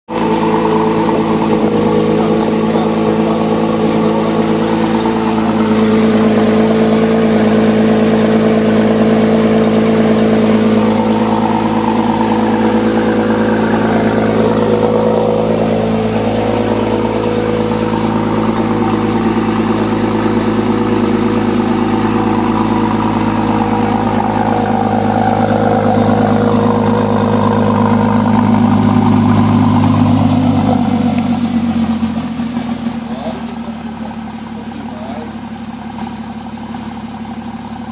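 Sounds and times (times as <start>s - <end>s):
car engine and exhaust running: 0.0s - 37.9s.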